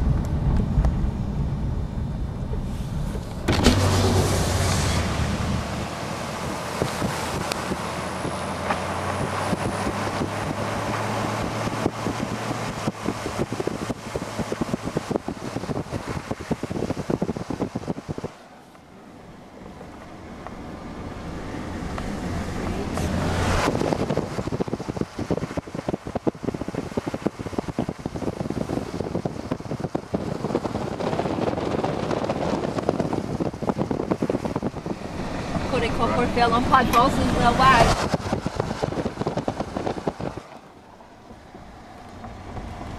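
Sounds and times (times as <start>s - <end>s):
wind on microphone: 0.0s - 18.4s, 19.6s - 42.9s
car engine hum: 0.0s - 42.9s
road noise: 0.0s - 42.9s.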